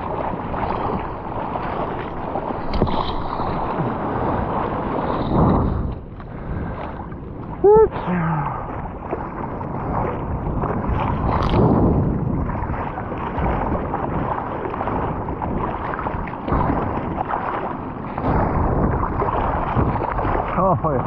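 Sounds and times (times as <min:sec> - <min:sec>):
water sloshing around surfboard: 0:00.0 - 0:21.0.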